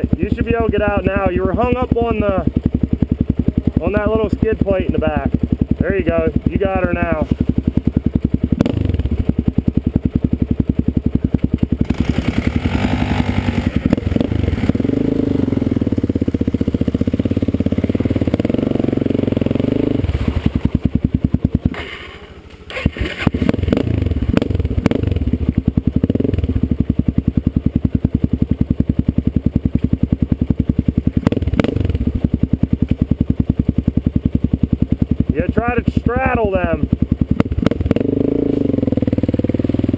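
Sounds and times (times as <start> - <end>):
dirt bike engine running: 0.0 - 39.9
engine revving: 0.0 - 39.9.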